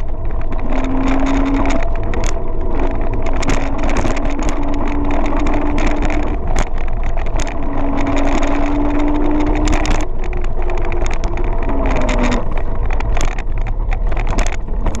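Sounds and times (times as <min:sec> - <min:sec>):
electric motor whine: 0:00.0 - 0:15.0
road rumble: 0:00.0 - 0:15.0
short crackles: 0:00.0 - 0:15.0
wind rushing over microphone: 0:00.0 - 0:15.0.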